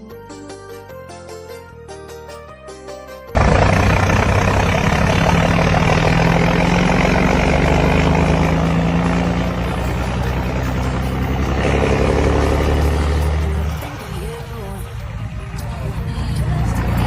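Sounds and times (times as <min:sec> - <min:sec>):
diesel truck engine running: 0:03.3 - 0:17.0.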